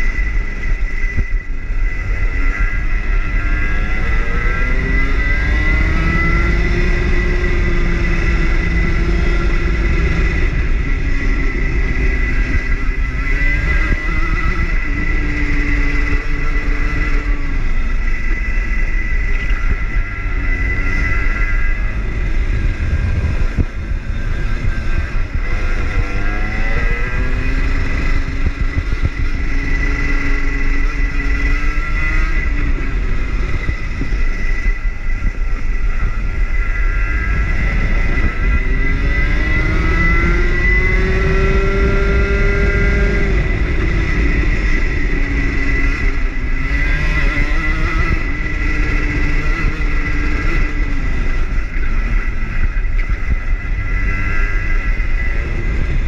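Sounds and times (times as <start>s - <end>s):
heavy low rumble: 0.0s - 56.0s
kart engine revving: 0.0s - 56.0s.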